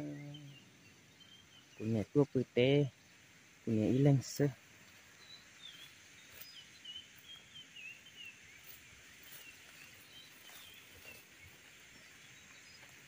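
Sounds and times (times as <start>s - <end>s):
outdoor hiss: 0.0s - 13.0s
small birds chirping: 0.0s - 13.0s.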